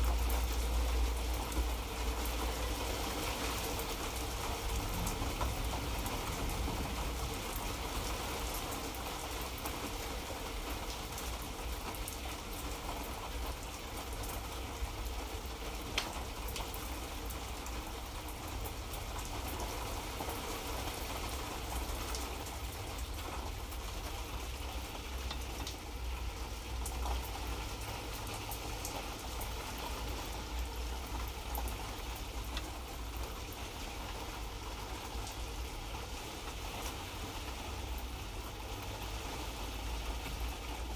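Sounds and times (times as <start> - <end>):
light rain patter: 0.0 - 40.9.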